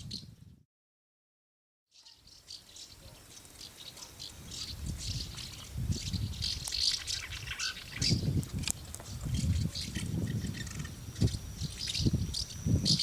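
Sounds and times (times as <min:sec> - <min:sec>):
swallows twittering: 0:01.9 - 0:13.0.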